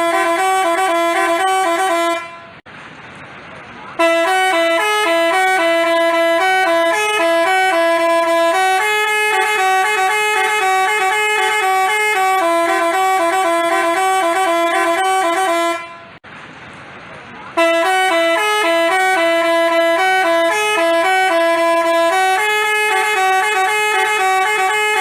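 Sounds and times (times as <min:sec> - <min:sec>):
multi-tone bus horn playing tune: 0:00.0 - 0:02.6, 0:04.0 - 0:16.2, 0:17.5 - 0:25.0.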